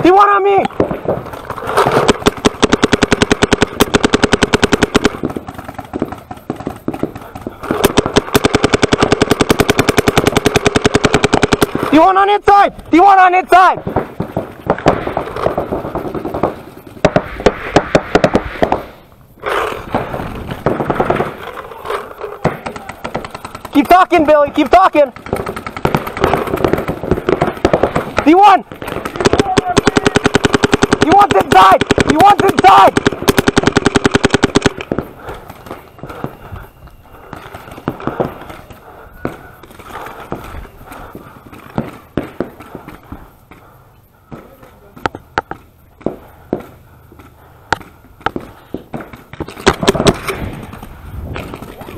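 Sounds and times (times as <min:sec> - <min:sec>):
paintball markers firing: 0:00.0 - 0:13.1, 0:13.7 - 0:36.6, 0:37.2 - 0:43.7, 0:44.3 - 0:51.9.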